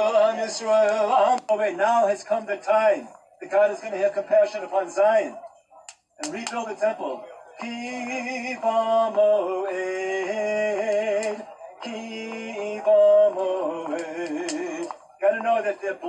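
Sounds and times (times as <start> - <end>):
man chanting with vibrato: 0.0 - 16.0.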